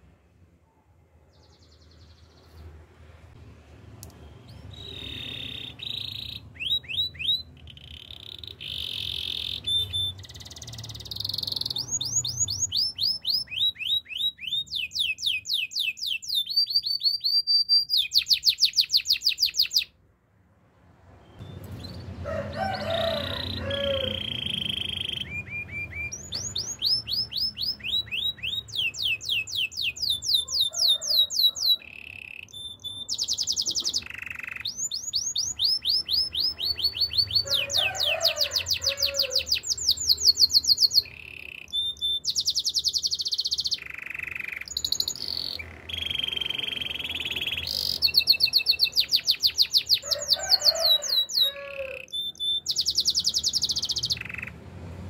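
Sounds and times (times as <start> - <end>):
canary singing: 4.0 - 20.0, 21.1 - 54.7.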